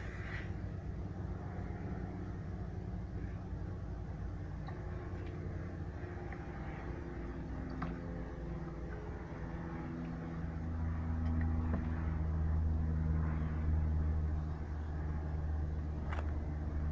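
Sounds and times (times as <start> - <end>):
motor humming: 0.0 - 15.2.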